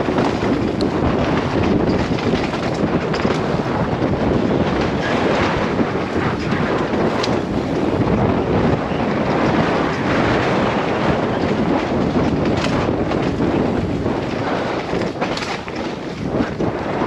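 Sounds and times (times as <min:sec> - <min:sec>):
bike rattling over rough ground: 0:00.0 - 0:17.0
bike tyres rumbling on dirt trail: 0:00.0 - 0:17.0
wind buffeting microphone: 0:00.0 - 0:17.0.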